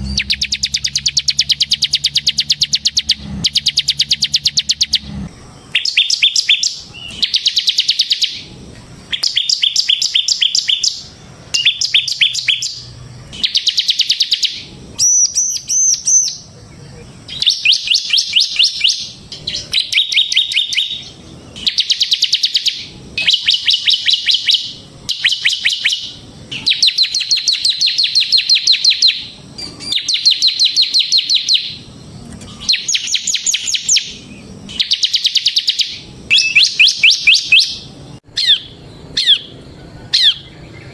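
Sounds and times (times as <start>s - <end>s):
bird chattering trills: 0.0s - 40.9s.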